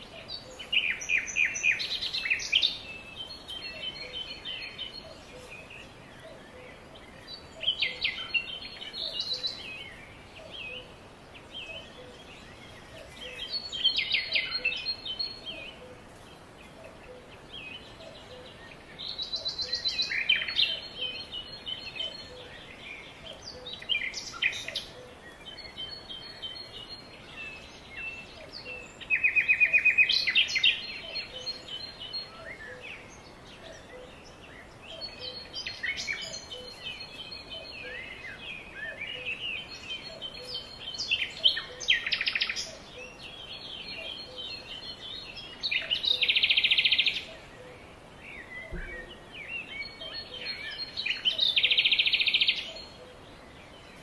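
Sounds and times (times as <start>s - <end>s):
faint background hiss: 0.0s - 54.0s
songbirds singing and calling: 0.0s - 54.0s.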